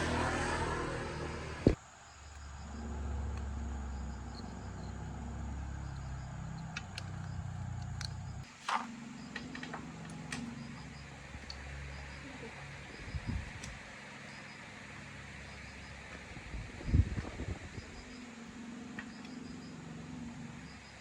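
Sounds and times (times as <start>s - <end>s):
motorbike engine idling: 0.0s - 21.0s.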